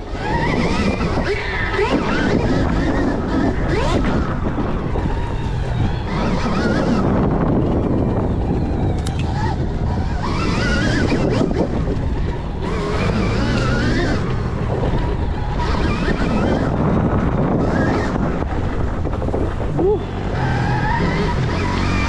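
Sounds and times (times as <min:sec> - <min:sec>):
electric motor whine: 0:00.0 - 0:22.0
wind on microphone: 0:00.0 - 0:22.0.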